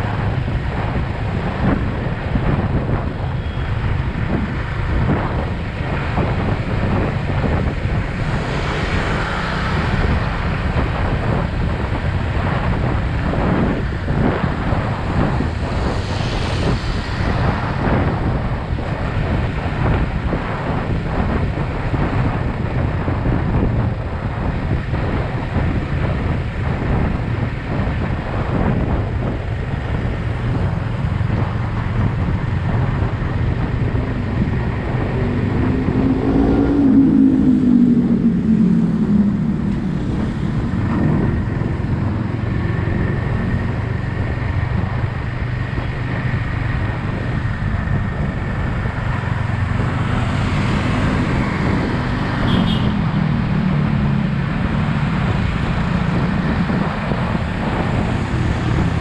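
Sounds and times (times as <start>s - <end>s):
traffic: 0.0s - 59.0s
wind noise: 0.0s - 59.0s.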